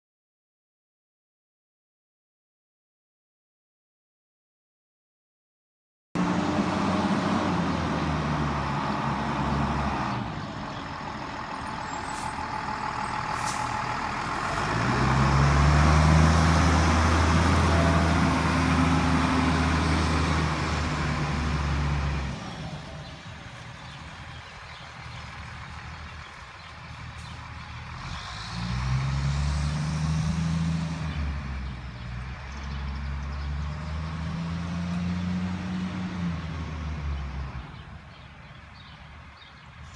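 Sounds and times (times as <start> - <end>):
fire truck engines accelerating: 6.2 - 39.9
road noise: 6.2 - 39.9.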